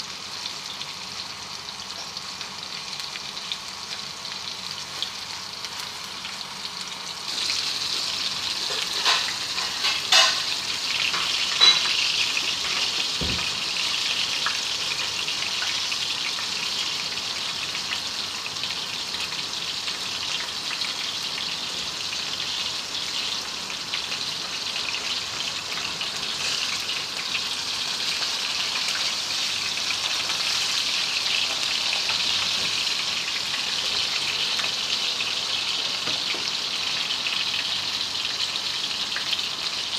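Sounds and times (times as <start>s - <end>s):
chicken sizzling in hot oil: 0.0s - 39.9s.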